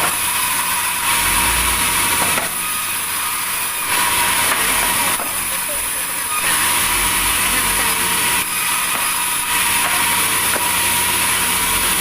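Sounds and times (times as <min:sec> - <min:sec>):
saw blade cutting log: 0:00.0 - 0:12.0
low motor hum: 0:01.0 - 0:12.0.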